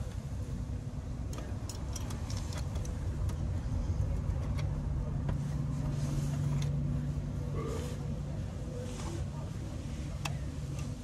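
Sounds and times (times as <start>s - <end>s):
low mechanical rumble and hum: 0.0s - 11.0s.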